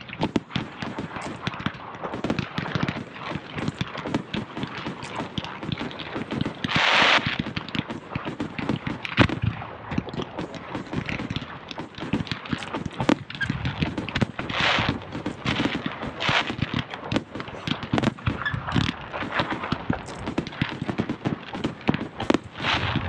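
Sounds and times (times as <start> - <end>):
fireworks bangs and pops: 0.0 - 23.0
hissing crackle: 0.0 - 23.0.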